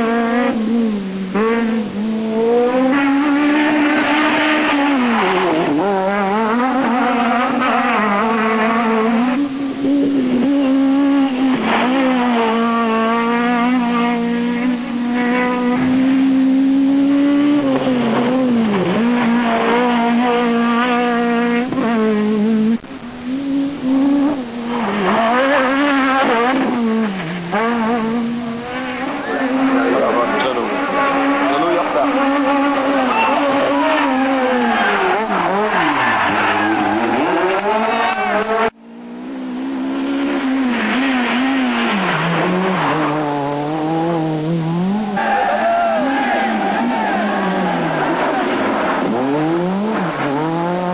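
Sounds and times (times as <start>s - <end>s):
rally car engine at high revs: 0.0s - 50.9s.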